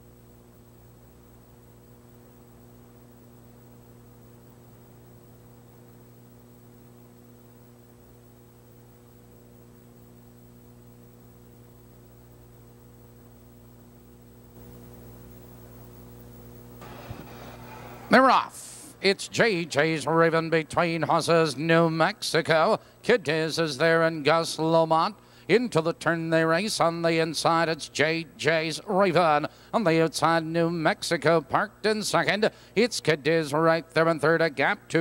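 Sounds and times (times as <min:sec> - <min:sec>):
electrical mains hum: 0:00.0 - 0:35.0
faint tape hiss: 0:00.0 - 0:35.0.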